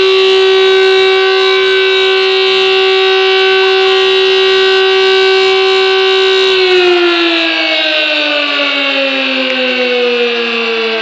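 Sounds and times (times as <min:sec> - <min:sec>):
fire station siren steady tone: 0:00.0 - 0:11.0.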